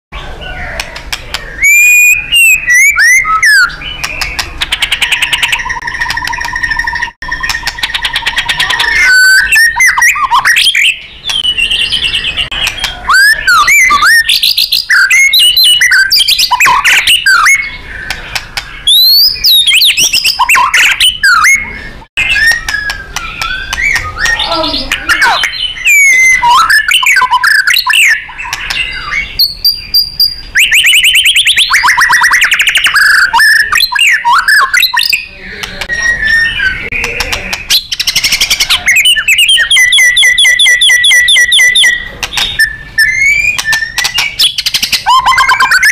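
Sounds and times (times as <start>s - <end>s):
songbird singing whistles and trills: 0.2s - 45.9s.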